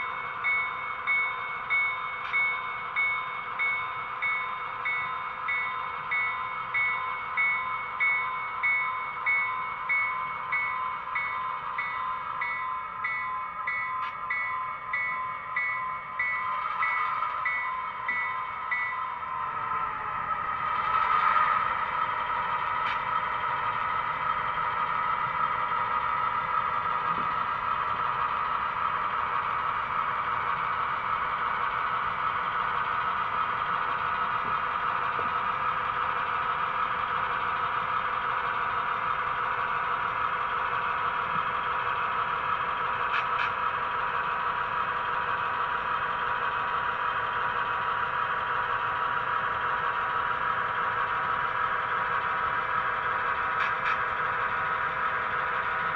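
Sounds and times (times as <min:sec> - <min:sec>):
model locomotive diesel engine sound: 0:00.0 - 0:55.9.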